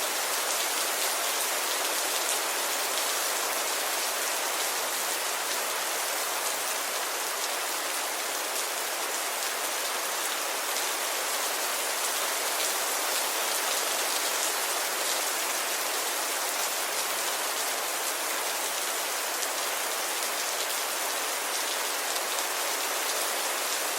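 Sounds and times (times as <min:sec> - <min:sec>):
steady rainfall: 0:00.0 - 0:23.9.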